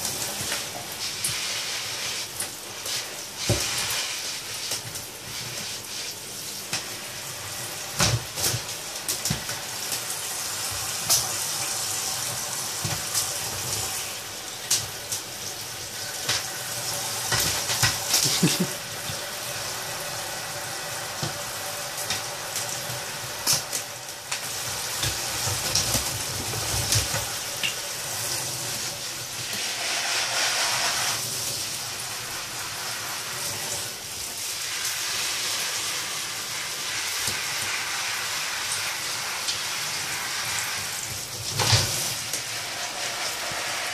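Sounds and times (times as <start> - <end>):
shower head spraying water: 0.0 - 43.9.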